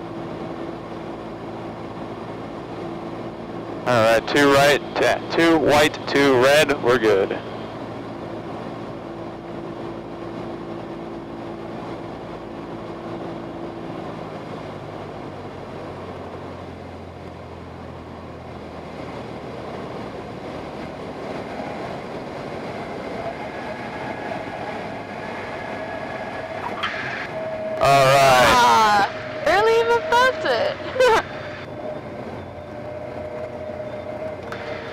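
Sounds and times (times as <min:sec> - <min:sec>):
light aircraft engine: 0:00.0 - 0:34.9.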